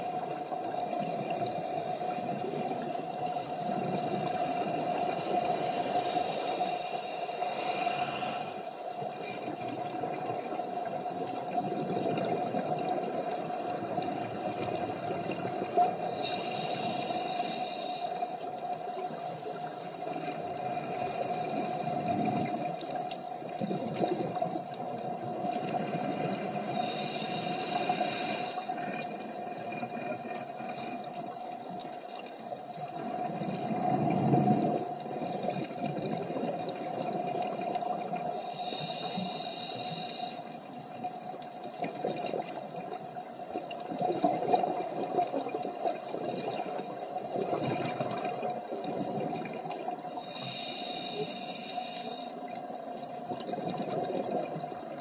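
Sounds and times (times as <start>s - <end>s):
rumbling water noise: 0.0s - 55.0s
underwater hum: 0.0s - 55.0s.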